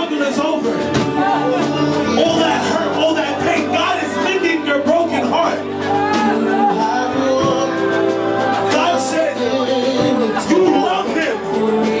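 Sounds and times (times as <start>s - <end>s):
gospel chords: 0.0s - 12.0s
voices singing: 0.0s - 12.0s
percussion hits: 0.4s - 12.0s.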